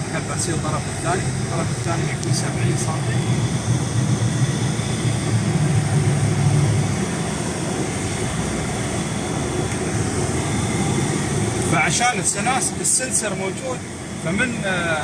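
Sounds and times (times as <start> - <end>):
engine low rumble: 0.0 - 15.0.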